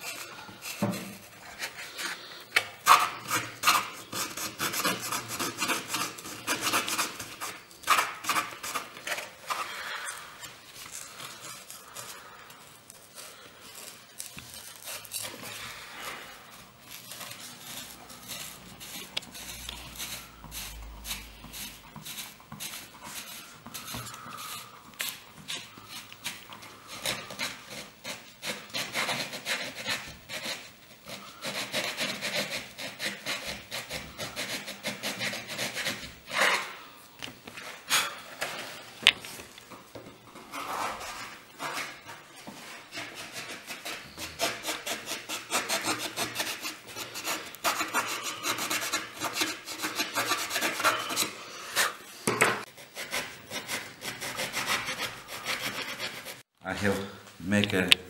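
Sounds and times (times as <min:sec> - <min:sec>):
hand tool rasping and scraping: 0:00.0 - 0:57.0.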